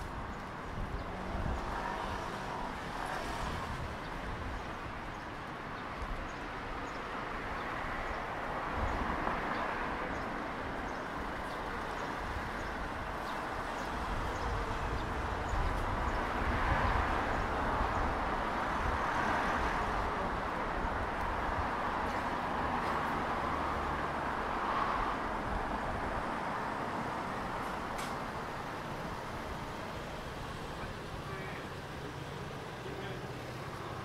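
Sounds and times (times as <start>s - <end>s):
cars passing: 0.0s - 34.0s.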